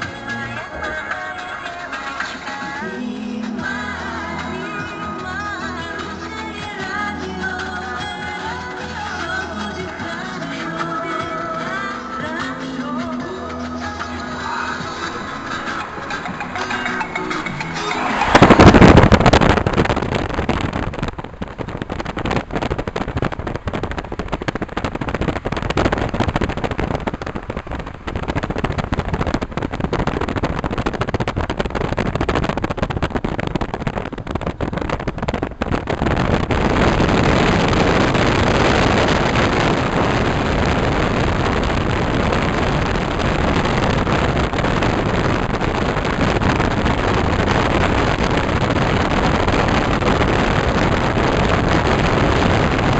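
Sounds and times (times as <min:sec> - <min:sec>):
road and wind noise: 0:00.0 - 0:52.9.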